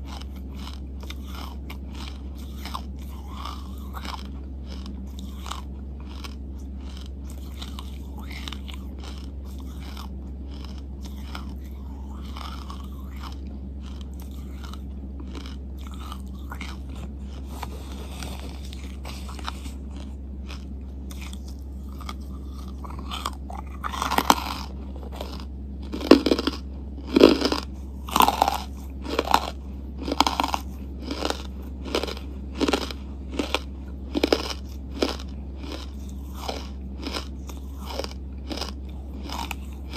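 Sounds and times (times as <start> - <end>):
crunching charcoal between teeth: 0.0 - 39.9
steady low hum: 0.0 - 39.9.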